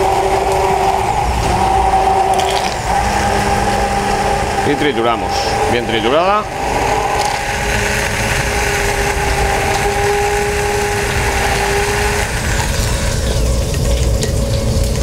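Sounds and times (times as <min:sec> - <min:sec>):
liquid churning: 0:00.0 - 0:15.0
stick blender motor whine: 0:00.0 - 0:15.0.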